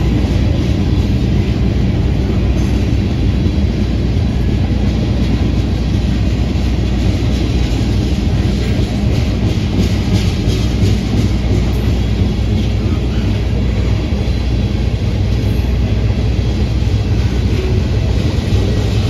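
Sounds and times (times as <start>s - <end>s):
freight train wheels rolling on rail: 0.0s - 19.0s.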